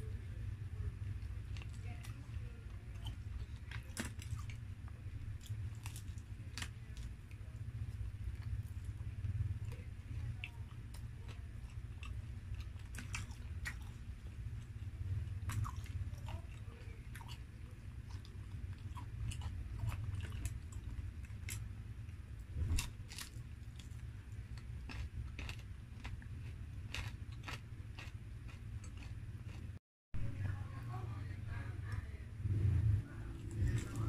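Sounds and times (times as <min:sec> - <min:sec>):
chewing fried chicken: 0:00.0 - 0:29.8, 0:31.5 - 0:34.0
low steady hum: 0:00.0 - 0:34.0.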